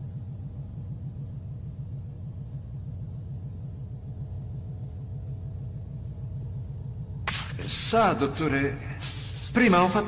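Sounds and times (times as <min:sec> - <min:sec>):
faint sustained tones: 0:00.0 - 0:10.0
low rumbling machinery hum: 0:00.0 - 0:10.0.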